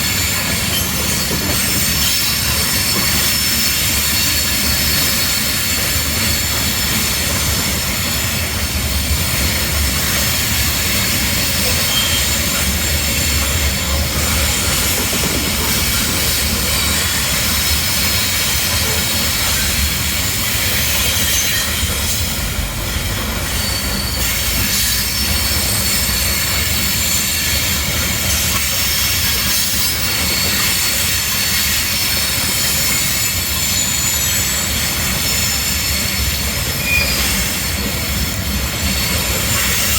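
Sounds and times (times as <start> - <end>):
train rumble: 0.0 - 39.9
train wheels squealing on rails: 0.0 - 39.9.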